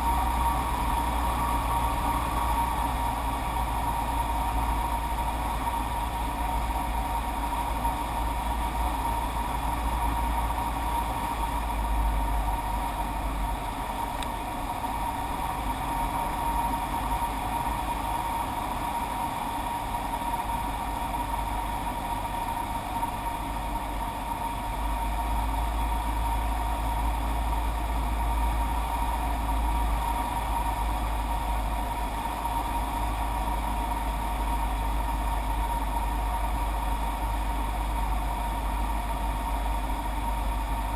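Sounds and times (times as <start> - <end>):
engine-like drone: 0.0 - 40.9.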